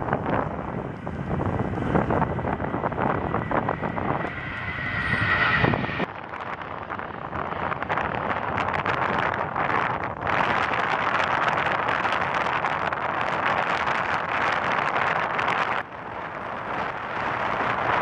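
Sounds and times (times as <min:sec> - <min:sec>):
jet engine whine: 0:00.0 - 0:18.0
wind buffeting microphone: 0:00.0 - 0:18.0.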